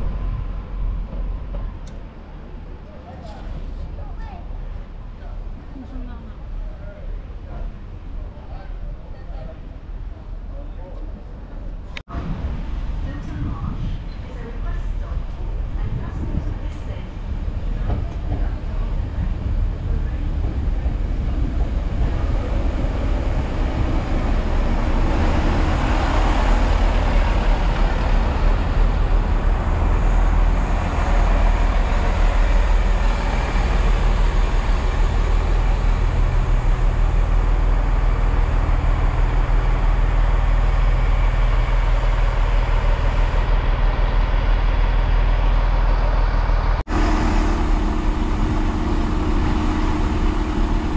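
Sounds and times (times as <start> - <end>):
train wheels on rails: 0.0 - 4.8, 12.4 - 50.9
diesel train engine drone: 0.0 - 8.9, 11.2 - 50.9.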